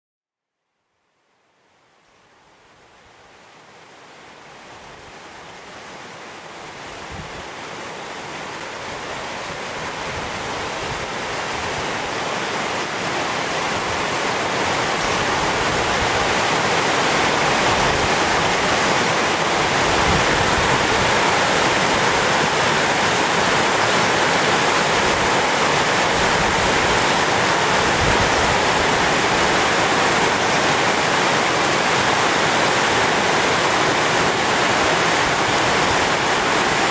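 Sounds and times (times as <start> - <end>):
waterfall roar: 2.0 - 36.9.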